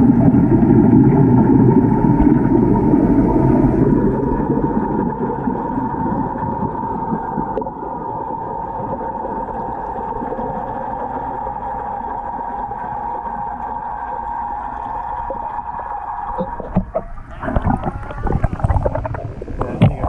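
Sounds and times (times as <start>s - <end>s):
underwater circulating water hum: 0.0s - 20.0s.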